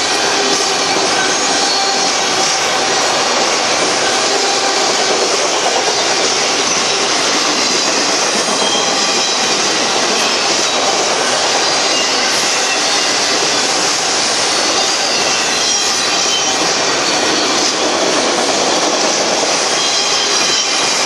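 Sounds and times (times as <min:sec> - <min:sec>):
steel wheels running on rails: 0:00.0 - 0:21.0.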